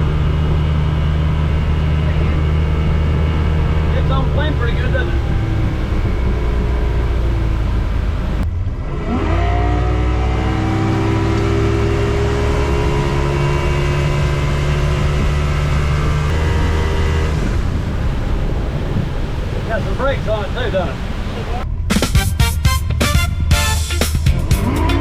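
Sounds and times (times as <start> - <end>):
water rushing: 0.0 - 8.4, 9.0 - 23.7
outboard motor running hard: 0.0 - 21.5
wind: 0.0 - 25.0.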